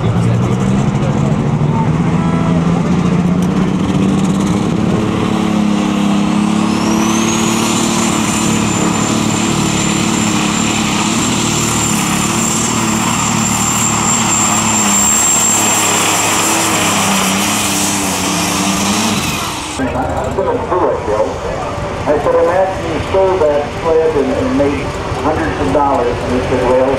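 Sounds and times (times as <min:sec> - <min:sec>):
tractor engine running loud: 0:00.0 - 0:26.9
high-pitched whine: 0:00.4 - 0:26.9.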